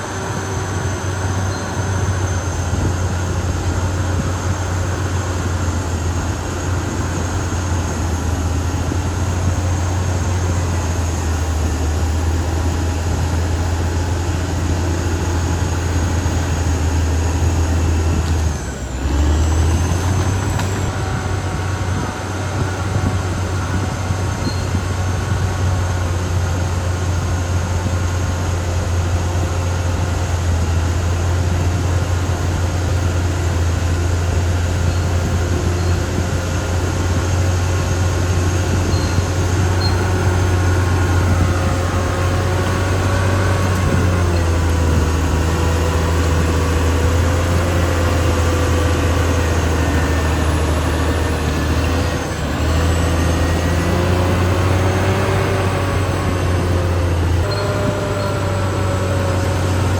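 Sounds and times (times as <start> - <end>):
bulldozer diesel engine running: 0.0 - 59.9
high whine: 0.0 - 59.9.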